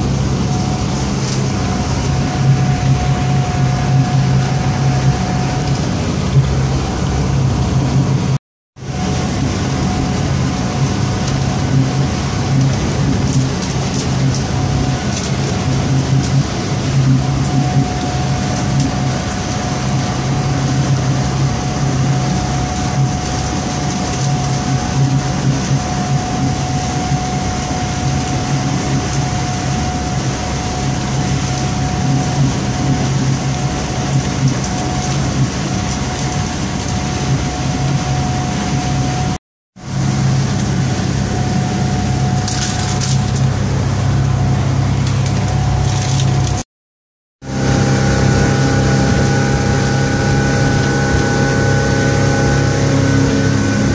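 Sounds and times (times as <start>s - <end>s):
boat engine droning: 0.0s - 46.6s, 47.4s - 53.9s
water and wind rushing: 0.0s - 46.6s, 47.4s - 53.9s
engine whine: 0.0s - 46.7s, 47.4s - 53.9s.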